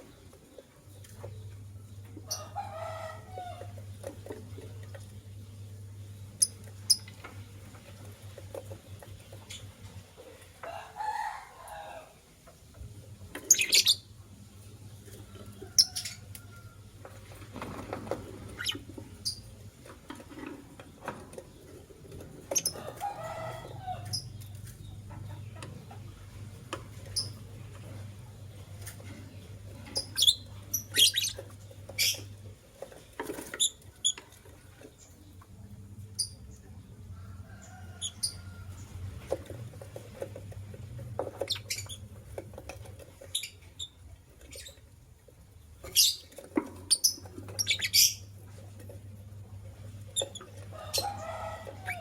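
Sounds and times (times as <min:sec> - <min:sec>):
lovebirds chattering and chirping: 0:00.0 - 0:10.6, 0:12.6 - 0:17.4, 0:18.4 - 0:40.2, 0:40.8 - 0:52.0.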